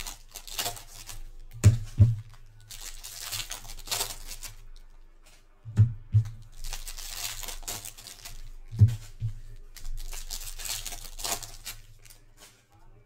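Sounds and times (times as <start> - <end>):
foil wrapper tearing and crinkling: 0.0 - 4.8, 6.4 - 12.3.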